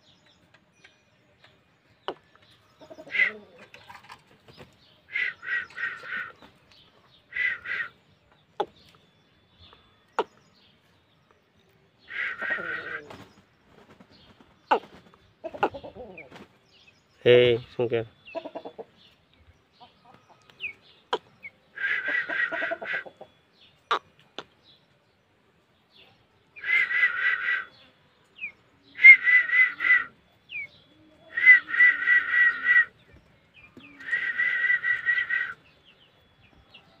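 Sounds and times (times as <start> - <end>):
bird chirps: 0.0 - 37.0
bird trilling: 2.0 - 4.2, 4.9 - 10.7, 12.0 - 13.5, 14.2 - 24.8, 26.6 - 37.0.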